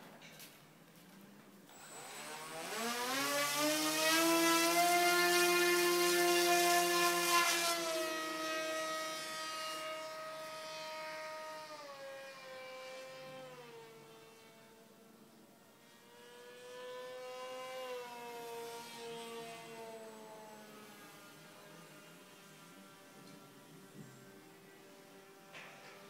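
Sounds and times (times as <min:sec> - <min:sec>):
model plane motor whining: 0:01.7 - 0:26.0.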